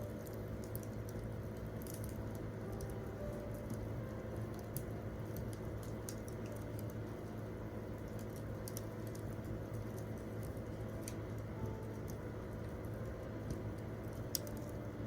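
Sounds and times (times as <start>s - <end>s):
steady low hum: 0.0s - 15.0s
campfire crackling: 0.2s - 14.7s.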